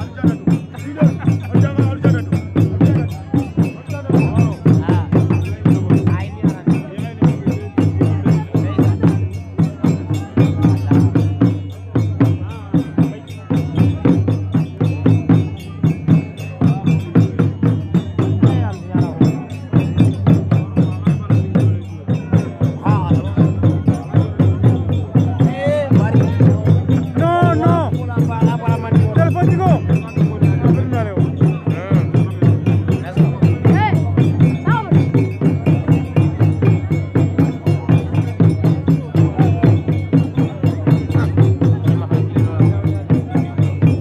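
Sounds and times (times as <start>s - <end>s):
sharp percussion strokes: 0.0s - 44.0s
voices singing: 0.0s - 44.0s.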